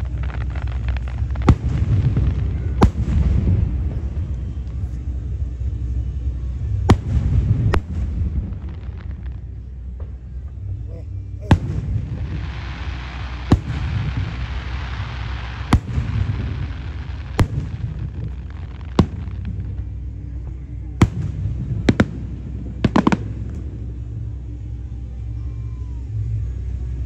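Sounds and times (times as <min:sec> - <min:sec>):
fireworks bursting: 0:00.0 - 0:05.0, 0:06.7 - 0:24.4
crackling hiss: 0:00.0 - 0:27.0.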